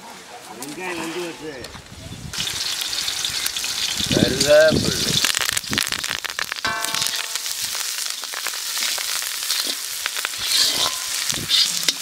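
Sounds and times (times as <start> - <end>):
food frying in oil: 2.3 - 12.0.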